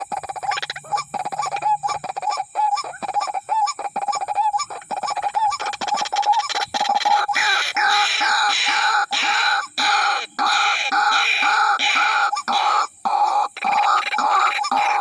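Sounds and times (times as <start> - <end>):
waterhen calling repeated notes: 0.0 - 15.0.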